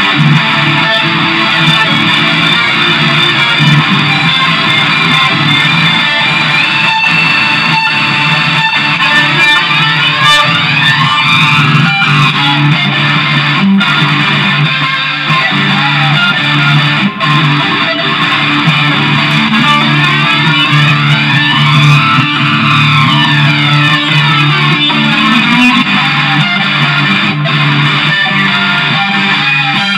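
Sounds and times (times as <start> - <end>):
bass guitar: 0.0 - 29.9
electric guitar: 0.0 - 29.9.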